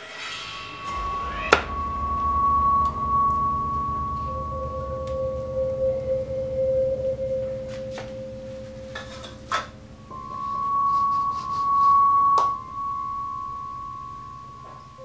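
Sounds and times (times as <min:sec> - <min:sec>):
ringing drone tones: 0:00.0 - 0:15.0.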